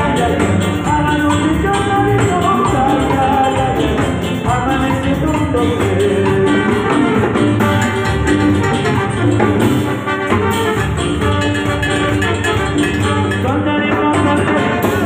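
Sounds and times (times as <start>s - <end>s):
congas and timbales: 0.0s - 15.0s
latin dance band playing: 0.0s - 15.0s.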